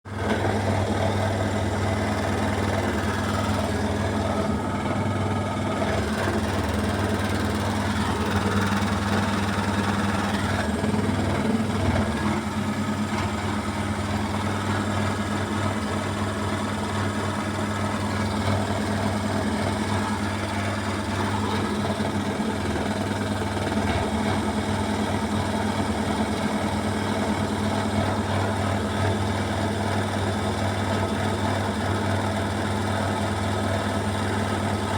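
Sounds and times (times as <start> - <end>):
washing machine spinning: 0.1 - 34.9.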